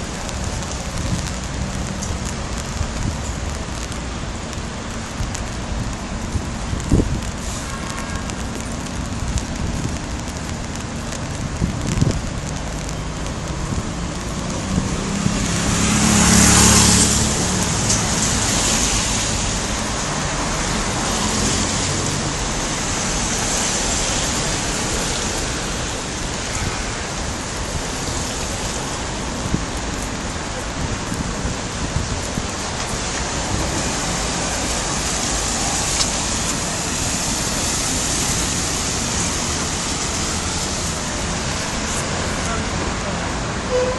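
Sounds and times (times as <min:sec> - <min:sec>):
rain on an umbrella: 0:00.0 - 0:43.9
tyres hissing on wet road: 0:00.0 - 0:43.9.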